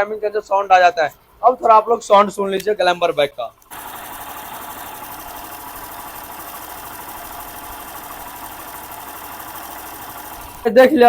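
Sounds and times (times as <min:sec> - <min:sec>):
motorcycle engine idling: 0:01.2 - 0:11.0.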